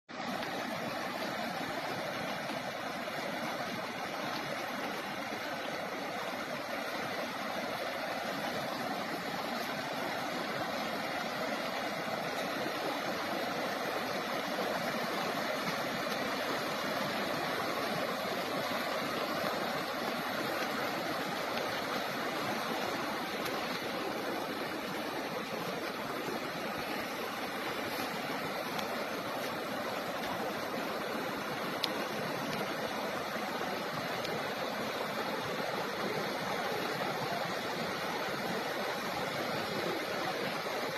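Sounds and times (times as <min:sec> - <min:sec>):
floodwater rushing: 0:00.1 - 0:40.9.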